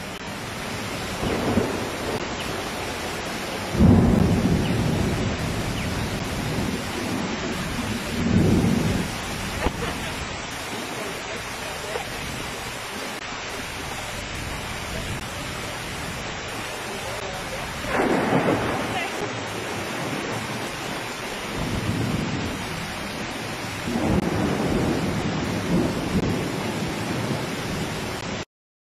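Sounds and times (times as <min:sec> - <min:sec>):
heavy rain pouring: 0:00.0 - 0:28.5
rumbling surges: 0:00.2 - 0:26.0.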